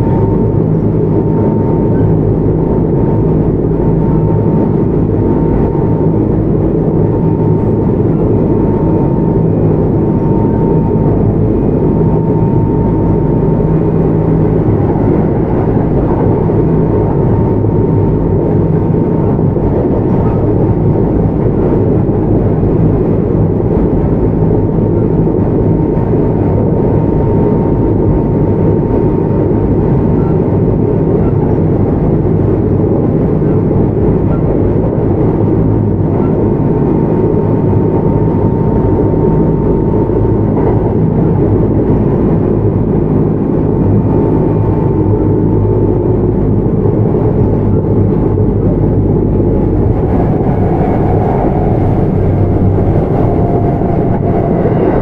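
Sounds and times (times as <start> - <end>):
thin steady whine: 0.0 - 55.0
train wheels rumbling on rails: 0.0 - 55.0.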